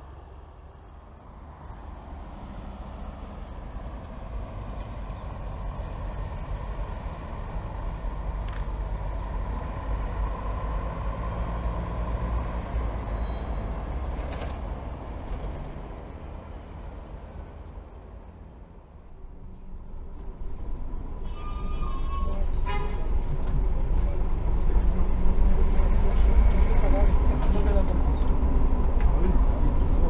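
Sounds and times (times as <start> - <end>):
bus diesel engine driving by: 0.0 - 30.0.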